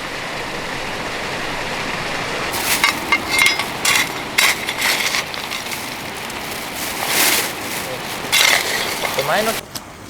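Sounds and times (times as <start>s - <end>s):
steady background hiss: 0.0s - 9.6s.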